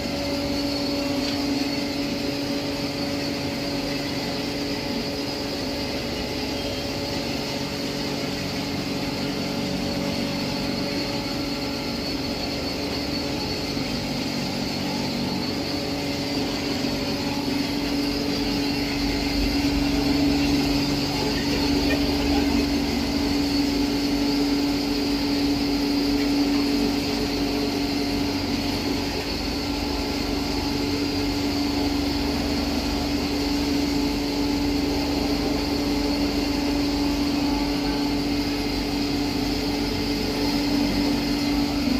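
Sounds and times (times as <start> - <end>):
grinding machine droning: 0.0 - 41.9.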